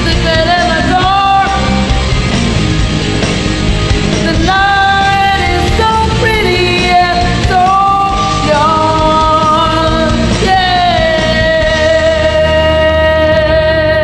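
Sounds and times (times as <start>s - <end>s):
woman singing karaoke: 0.0s - 2.0s, 4.2s - 14.0s
rock backing track: 0.0s - 14.0s.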